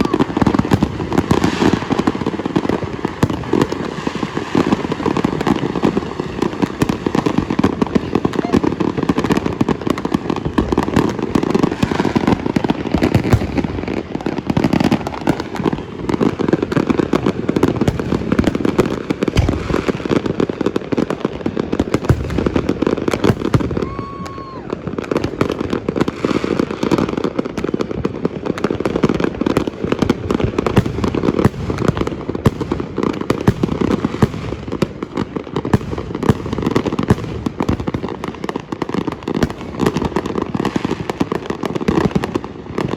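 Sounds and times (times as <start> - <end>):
fireworks and firecrackers banging: 0.0 - 42.9.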